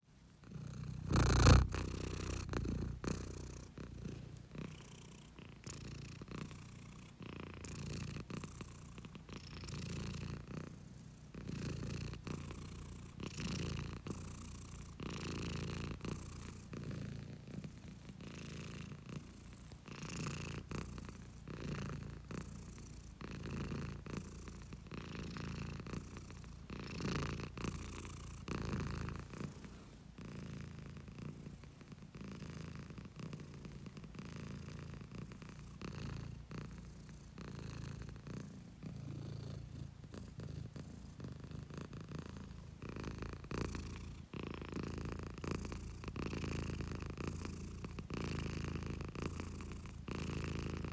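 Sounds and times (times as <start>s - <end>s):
cat purring: 0.0s - 50.9s.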